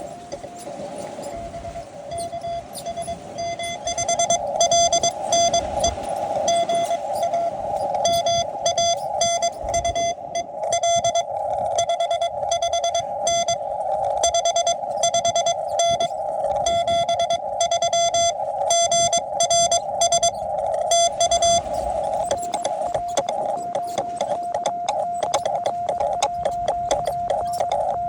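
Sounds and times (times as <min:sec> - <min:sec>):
morse code tone: 0:00.0 - 0:28.0
receiver hiss: 0:00.0 - 0:28.0.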